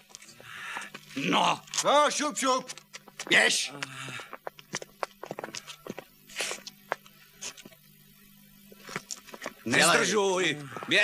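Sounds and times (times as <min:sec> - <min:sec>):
footsteps: 0:00.0 - 0:07.8, 0:08.7 - 0:11.0.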